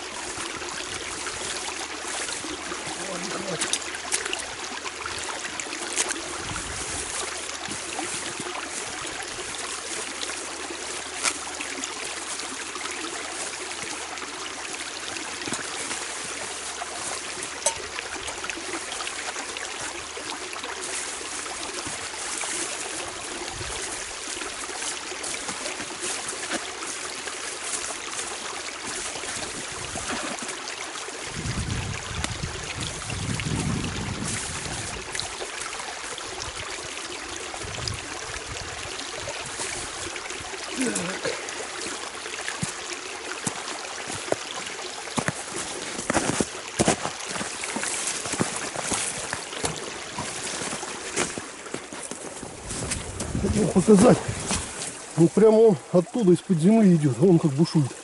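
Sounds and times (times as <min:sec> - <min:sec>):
brook water rushing: 0:00.0 - 0:58.0.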